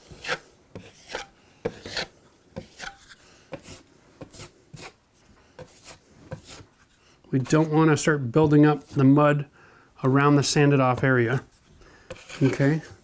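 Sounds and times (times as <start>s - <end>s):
drywall knife scraping compound: 0.0s - 5.0s, 5.6s - 13.0s.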